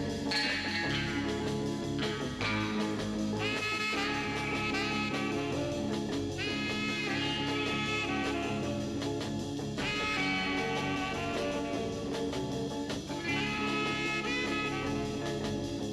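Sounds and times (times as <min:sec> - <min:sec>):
instrumental swing music: 0:00.0 - 0:15.9.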